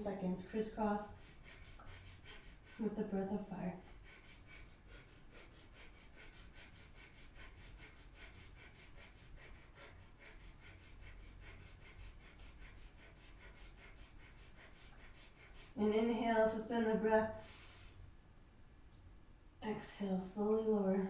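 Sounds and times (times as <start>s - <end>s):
rapid rhythmic nose breathing: 0.0s - 18.1s.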